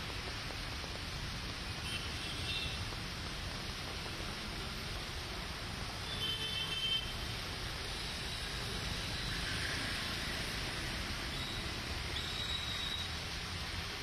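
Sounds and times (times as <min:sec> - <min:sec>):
heavy rain falling: 0:00.0 - 0:14.0
road traffic rumble: 0:00.0 - 0:14.0.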